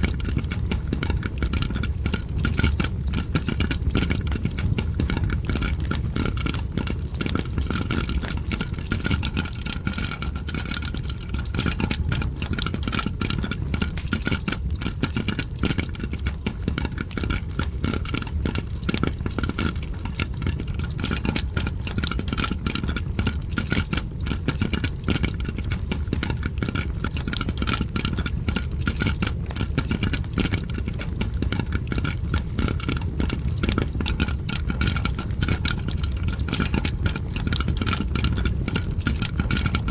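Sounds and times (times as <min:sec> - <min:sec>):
fire crackling: 0:00.0 - 0:39.9
popcorn popping: 0:00.0 - 0:39.9.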